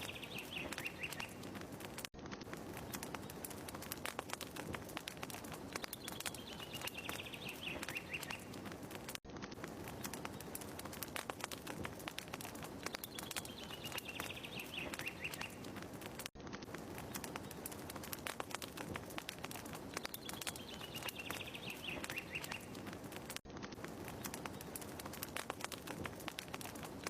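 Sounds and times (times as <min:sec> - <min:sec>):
fire crackling: 0:00.0 - 0:27.0.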